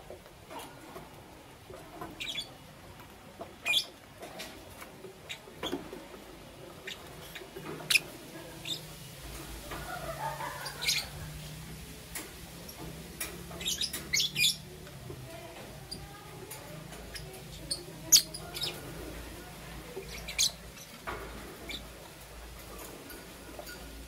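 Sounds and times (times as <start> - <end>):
lovebirds chirping and squawking: 1.7 - 14.9, 15.8 - 24.0.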